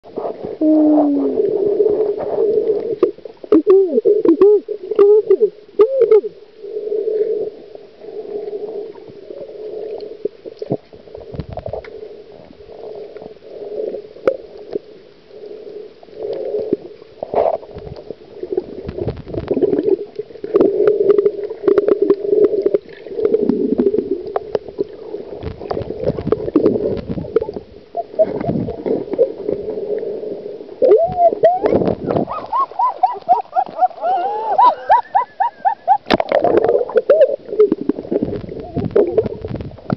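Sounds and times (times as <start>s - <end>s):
underwater snorkel gurgling: 0.0s - 39.9s.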